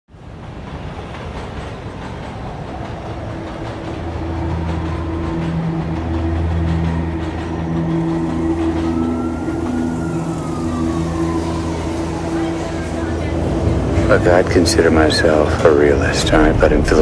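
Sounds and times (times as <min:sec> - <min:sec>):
vehicle rumbling in motion: 0:00.2 - 0:17.0.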